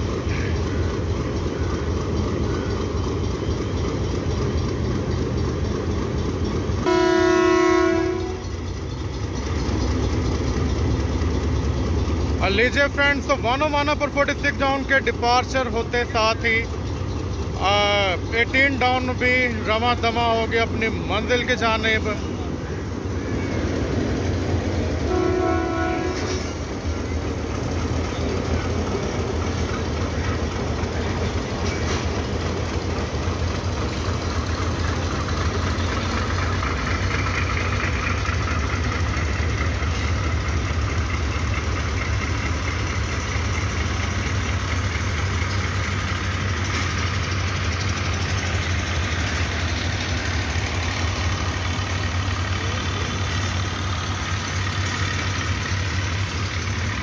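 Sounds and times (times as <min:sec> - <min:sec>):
train engine rumbling: 0:00.0 - 0:57.0.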